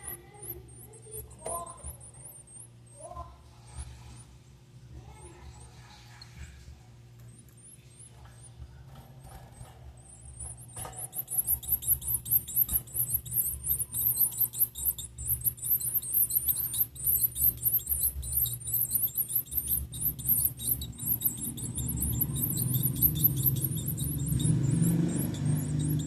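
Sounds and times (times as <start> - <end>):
nestlings begging calls: 0.0 - 4.3, 9.2 - 26.0.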